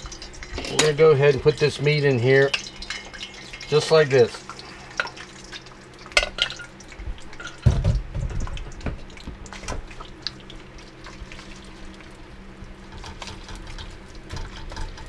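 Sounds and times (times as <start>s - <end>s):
meat crackling in hot oil: 0.0s - 15.0s
range hood fan humming: 0.0s - 15.0s.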